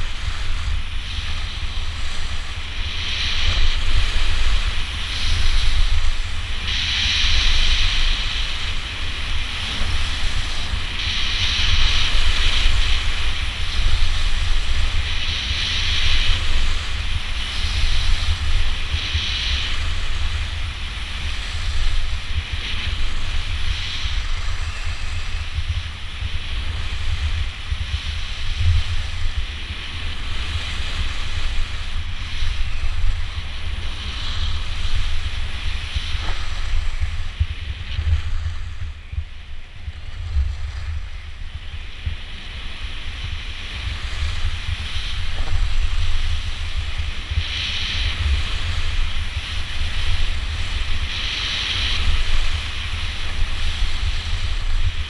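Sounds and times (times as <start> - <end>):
skis sliding on snow: 0.0 - 55.0
wind buffeting microphone: 0.0 - 55.0.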